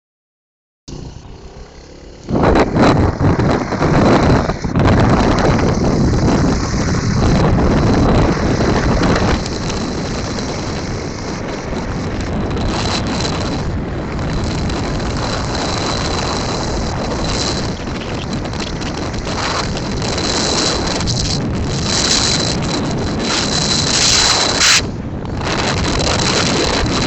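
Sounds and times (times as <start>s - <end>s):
motorcycle road noise: 0.9s - 27.0s
wind buffeting microphone: 0.9s - 27.0s.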